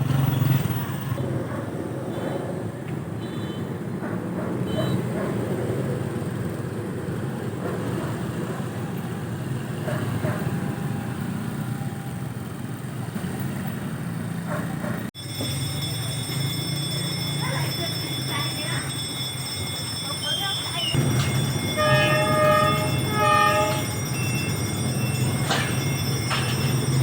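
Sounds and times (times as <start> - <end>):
motor vehicle engines running: 0.0 - 27.0.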